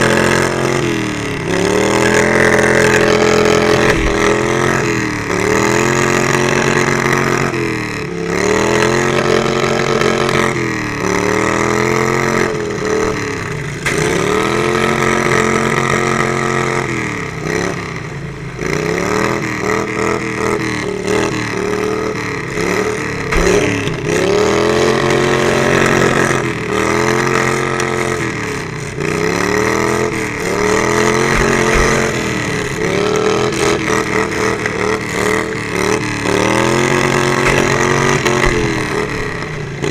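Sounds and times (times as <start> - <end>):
lawn mower engine racing: 0.0 - 39.9.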